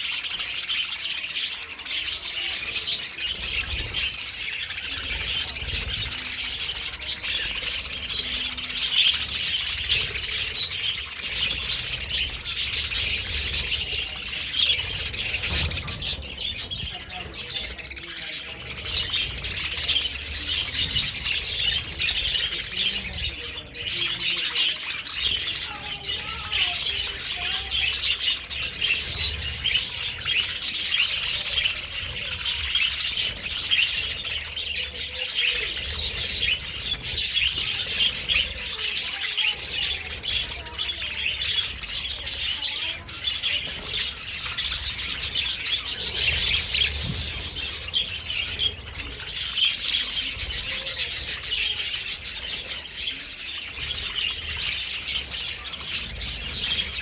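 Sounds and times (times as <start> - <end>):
budgerigars chattering and warbling: 0.0 - 57.0.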